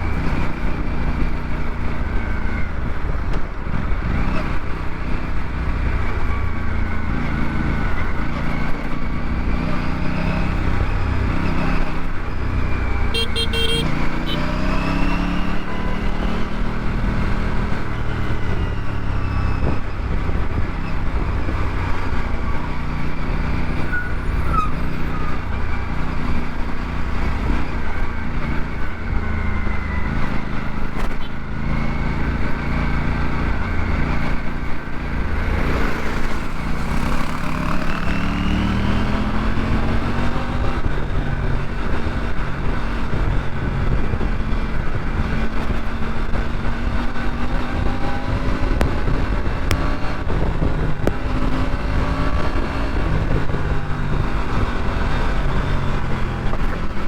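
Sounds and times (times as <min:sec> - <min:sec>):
motorcycle engine revving: 0:03.8 - 0:57.0.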